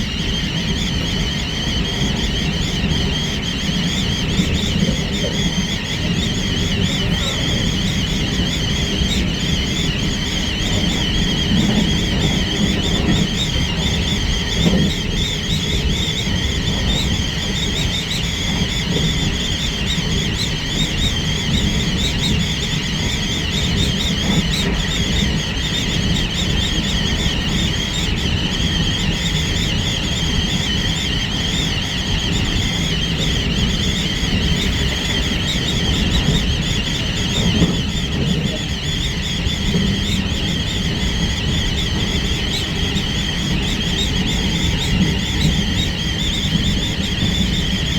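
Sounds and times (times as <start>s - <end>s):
high wavering whistling whine: 0.0s - 47.9s
train wheels rumbling on rails: 0.0s - 47.9s
wind noise: 0.0s - 47.9s.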